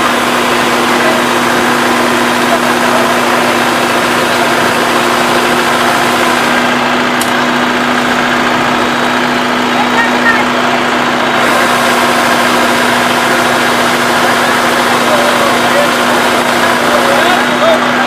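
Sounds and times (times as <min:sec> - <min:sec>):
combine harvester engine hum: 0:00.0 - 0:18.0
machinery noise: 0:00.0 - 0:18.0.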